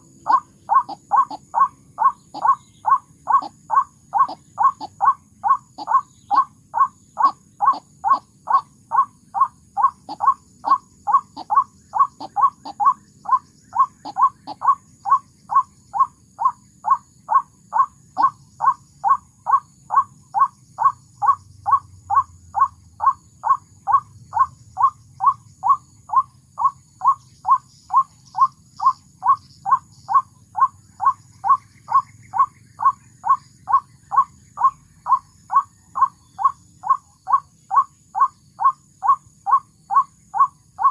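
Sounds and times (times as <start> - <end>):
waterhen call: 0.0 - 27.2, 27.9 - 40.9
small birds chirping: 0.0 - 40.9.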